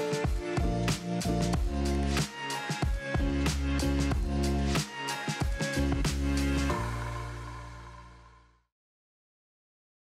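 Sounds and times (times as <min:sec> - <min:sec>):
intro music with steady beat: 0:00.0 - 0:08.6.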